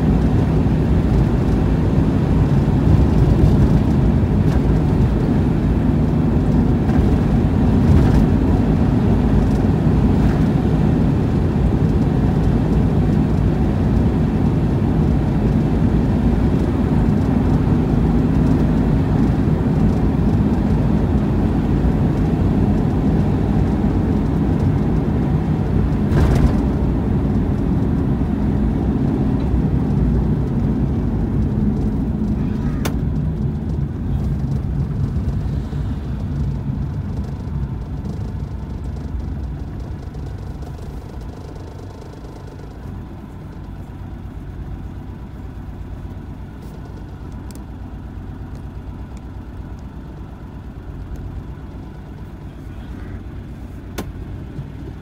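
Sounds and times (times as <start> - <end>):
car cabin road noise: 0.0 - 55.0
car engine idle hum: 0.0 - 55.0.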